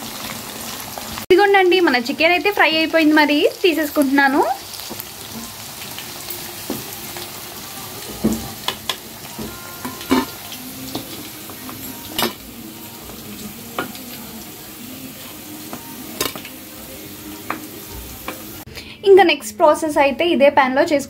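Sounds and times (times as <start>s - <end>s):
chicken deep-frying in oil: 0.0s - 18.7s.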